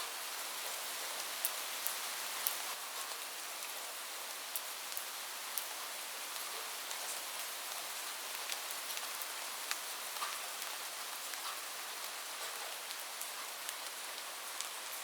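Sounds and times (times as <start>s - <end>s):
rain on a roof: 0.0s - 15.0s.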